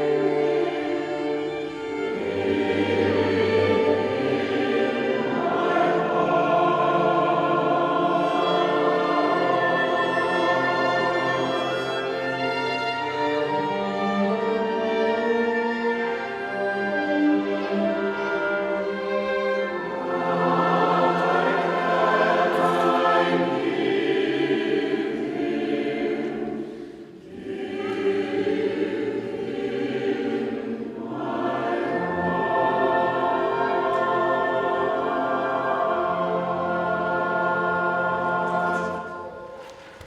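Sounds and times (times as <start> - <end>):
choir singing: 0.0 - 40.0.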